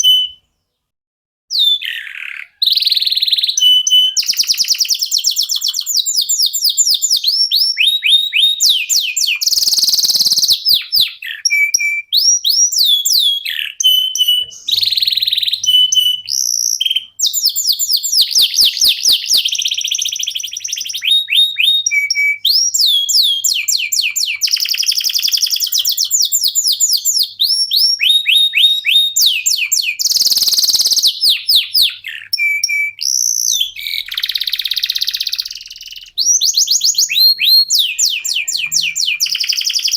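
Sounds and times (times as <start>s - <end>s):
canaries singing trills: 0.0s - 0.8s, 1.5s - 39.9s.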